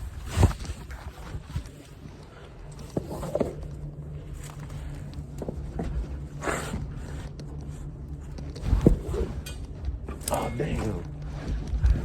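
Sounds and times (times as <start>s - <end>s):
muffled clothing rustling: 0.0s - 12.0s
steady low hum: 0.0s - 12.0s.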